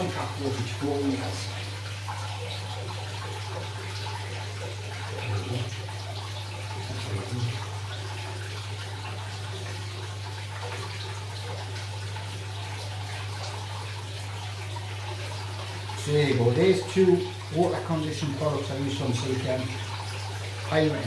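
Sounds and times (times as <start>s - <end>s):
water pouring into aquarium: 0.0s - 21.0s.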